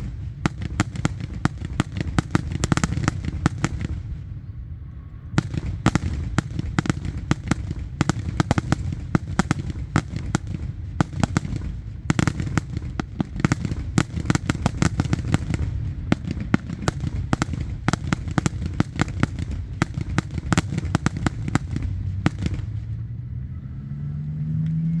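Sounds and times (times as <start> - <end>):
fireworks banging and crackling: 0.0 - 4.3, 5.4 - 23.1
low rumble: 0.0 - 25.0.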